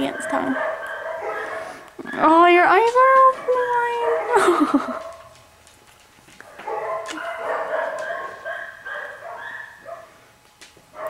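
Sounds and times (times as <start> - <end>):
dogs barking: 0.0 - 5.5, 6.4 - 11.0.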